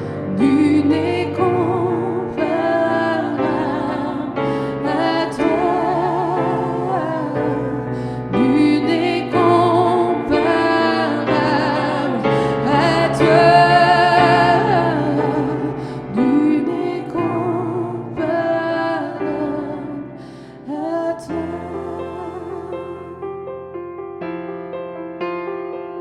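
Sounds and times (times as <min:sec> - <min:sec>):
women singing gospel: 0:00.0 - 0:23.3.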